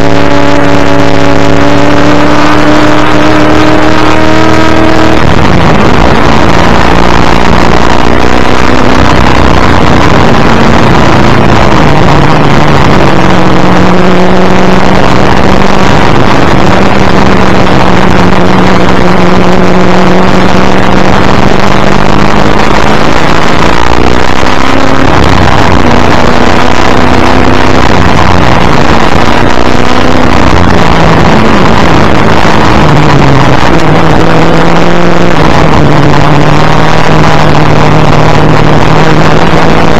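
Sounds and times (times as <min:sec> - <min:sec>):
racing car engine running hard: 0:00.0 - 0:39.9.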